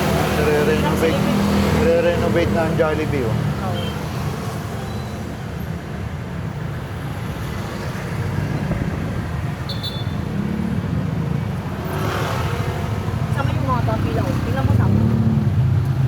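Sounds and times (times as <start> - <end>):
road and traffic noise: 0.0 - 16.0.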